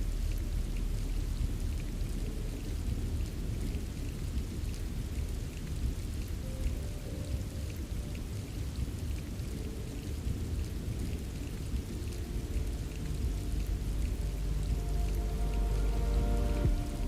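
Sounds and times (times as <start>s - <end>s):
deep continuous rumble: 0.0s - 17.0s
steady rain: 0.0s - 17.0s.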